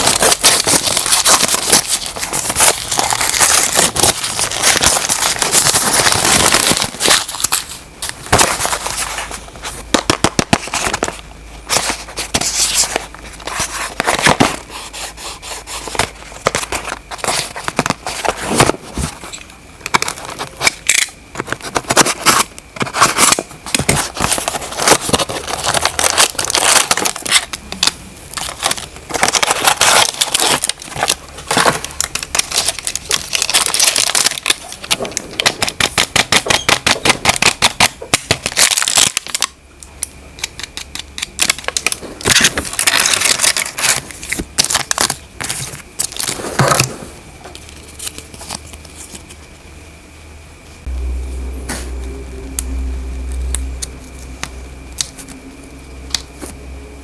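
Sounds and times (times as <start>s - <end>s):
plastic and cardboard crinkling: 0.0s - 39.5s, 40.4s - 49.6s.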